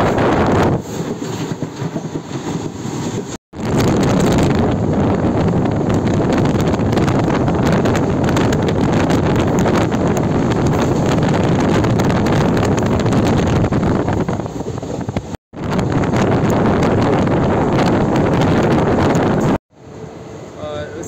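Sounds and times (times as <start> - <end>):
wind on microphone: 0.0 - 19.6
passenger train running: 0.0 - 21.0.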